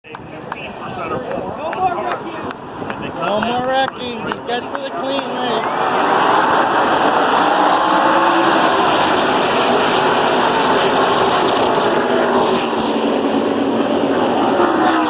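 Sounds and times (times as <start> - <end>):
race truck engines running hard: 0.1 - 15.0.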